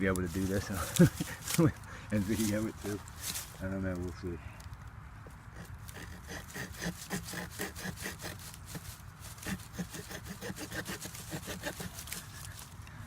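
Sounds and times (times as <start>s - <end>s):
knife sawing green wood: 0.2s - 3.6s, 5.5s - 12.7s.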